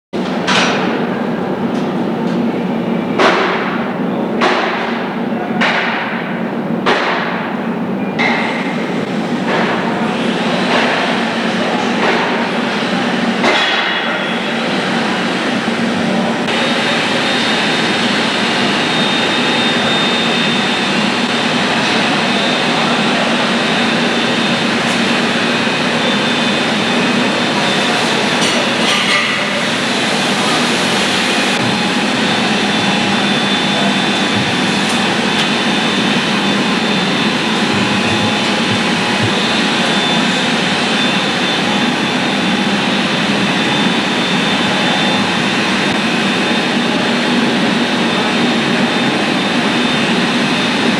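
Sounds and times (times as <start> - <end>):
heavy engine droning: 7.8 - 50.9.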